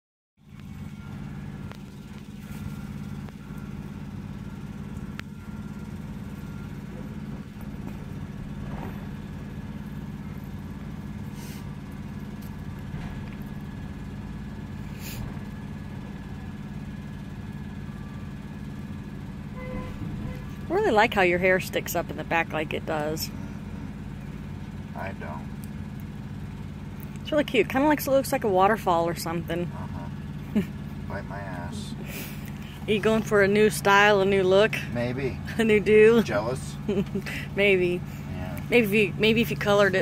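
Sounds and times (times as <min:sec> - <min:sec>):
diesel engine idling: 0:00.4 - 0:40.0.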